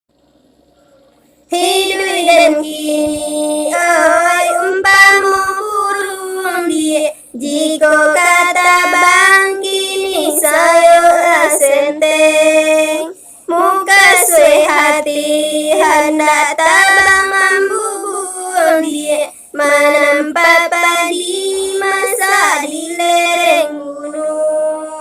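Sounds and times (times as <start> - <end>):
high solo voice singing: 1.5 - 25.0.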